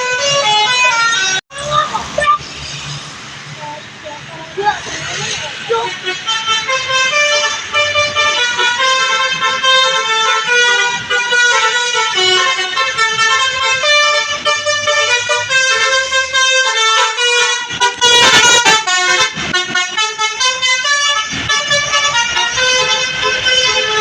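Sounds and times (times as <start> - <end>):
bus horn playing melody: 0.0 - 1.4, 4.8 - 24.0.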